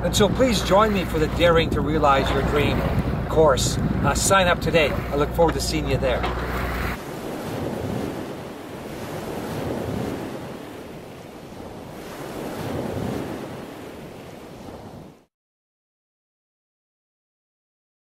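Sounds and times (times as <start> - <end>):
ocean waves washing: 0.0 - 15.3
wind over water: 0.0 - 15.3.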